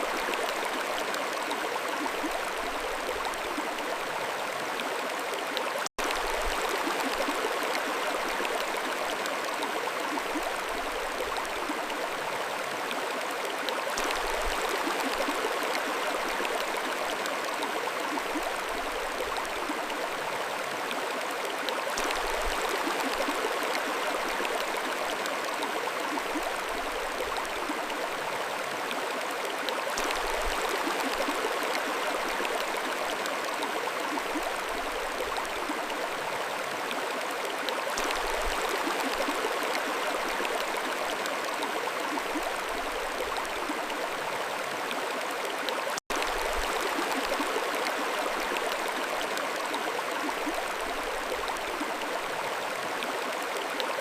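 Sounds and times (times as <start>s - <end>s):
mountain stream flowing: 0.0s - 54.0s.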